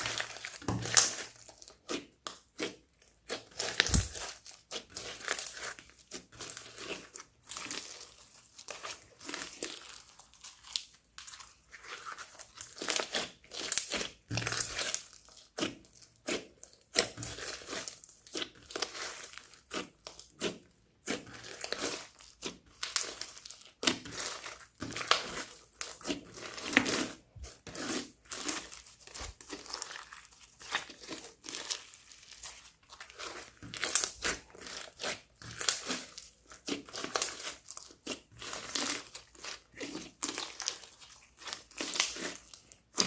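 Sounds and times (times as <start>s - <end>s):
slime squished by hand: 0.0s - 43.0s.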